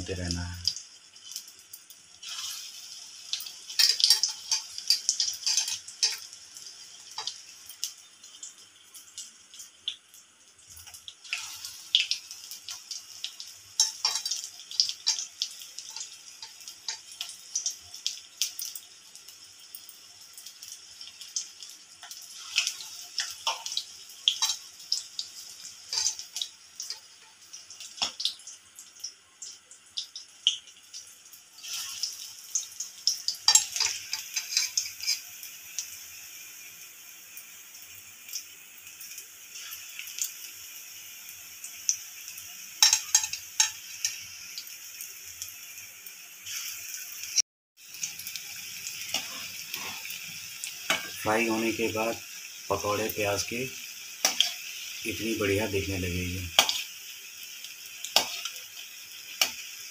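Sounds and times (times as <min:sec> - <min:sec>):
oil sizzling with crackling pops: 0:00.0 - 0:59.9.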